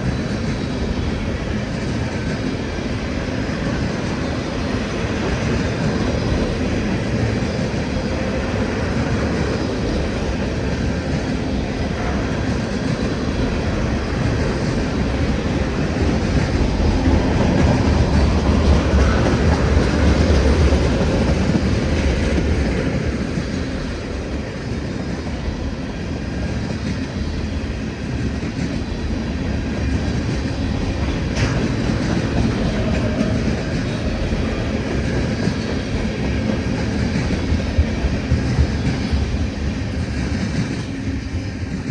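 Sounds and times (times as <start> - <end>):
freight train cars rolling: 0.0 - 41.9.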